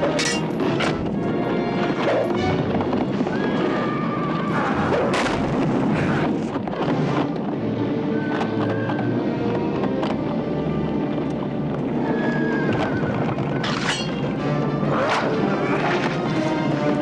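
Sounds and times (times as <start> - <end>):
dramatic orchestral score: 0.0 - 17.0.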